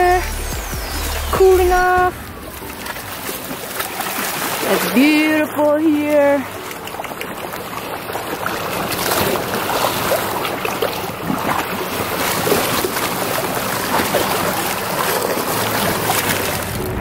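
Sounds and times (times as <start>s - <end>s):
water splashing among rocks: 0.9s - 17.0s.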